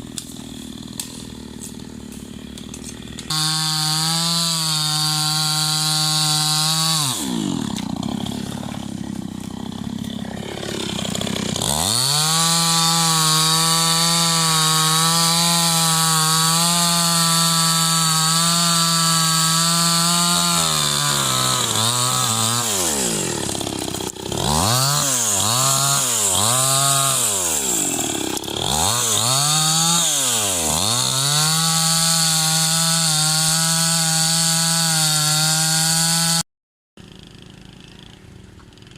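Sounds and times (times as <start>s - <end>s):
chainsaw engine revving: 0.0s - 36.4s, 37.0s - 38.9s.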